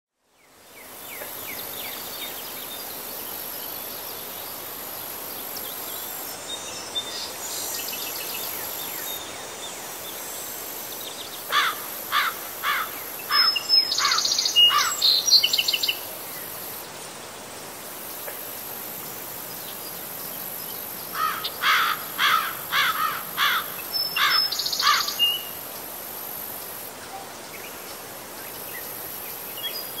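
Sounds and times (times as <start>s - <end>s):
steady high-pitched hiss: 0.2s - 30.0s
songbird singing: 0.4s - 17.0s, 19.2s - 25.9s, 26.6s - 30.0s.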